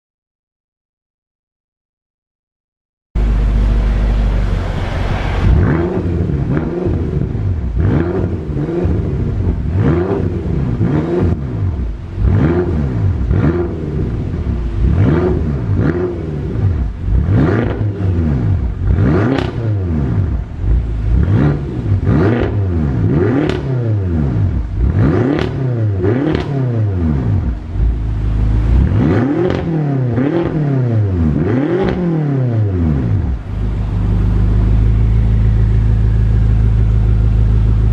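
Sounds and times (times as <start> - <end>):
car engine revving: 3.2 - 37.9.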